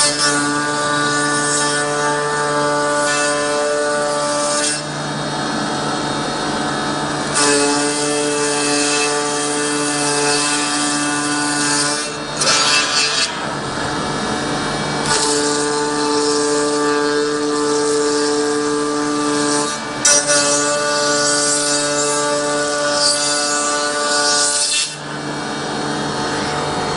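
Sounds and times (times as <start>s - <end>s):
milling machine spindle whine: 0.0s - 26.9s.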